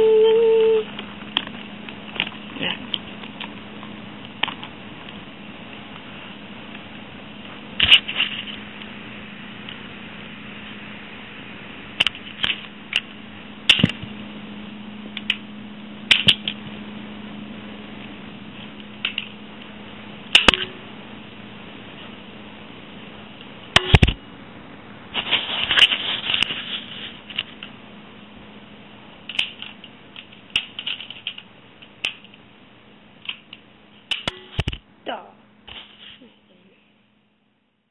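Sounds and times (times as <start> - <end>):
low steady hum: 0.0 - 37.9.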